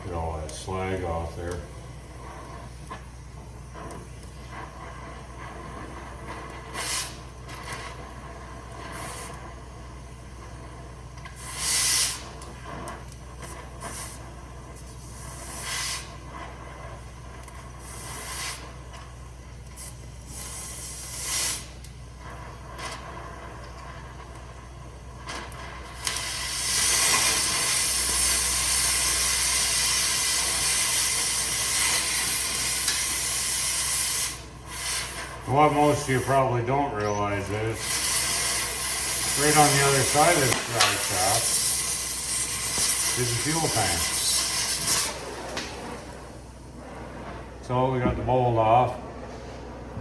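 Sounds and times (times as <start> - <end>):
cutting torch hissing bursts: 0.0 - 49.0
steady low hum: 0.0 - 50.0.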